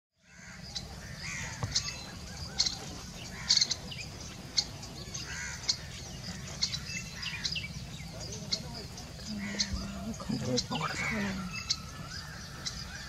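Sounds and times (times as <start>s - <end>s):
high bird chirps: 0.2s - 13.0s
soft low bird calls: 0.2s - 13.0s.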